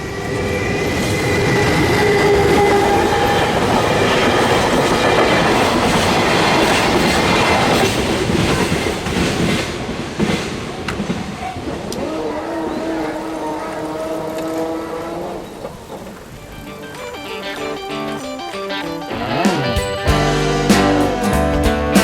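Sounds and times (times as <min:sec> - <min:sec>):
train passing close: 0:00.0 - 0:21.6.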